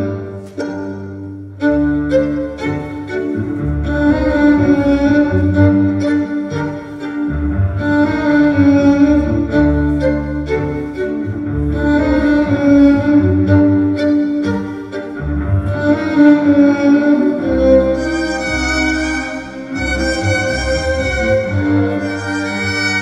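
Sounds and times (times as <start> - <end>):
tango music on bowed strings: 0.0 - 23.0.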